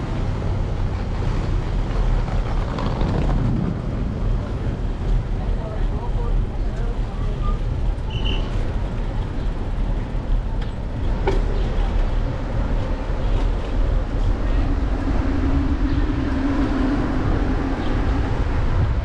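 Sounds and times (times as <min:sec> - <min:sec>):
tyre and street noise: 0:00.0 - 0:19.0
wind rumble on microphone: 0:00.0 - 0:19.0.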